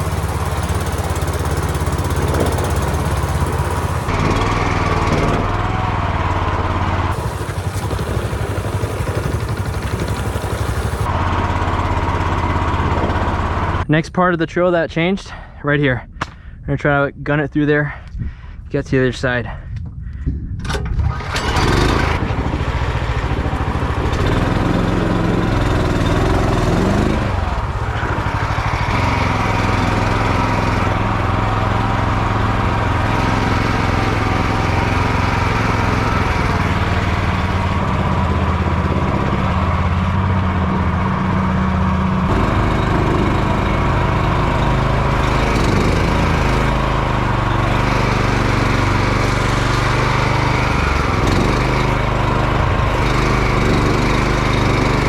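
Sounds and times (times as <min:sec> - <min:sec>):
boat motor running hard: 0:00.0 - 0:11.3, 0:21.7 - 0:55.0.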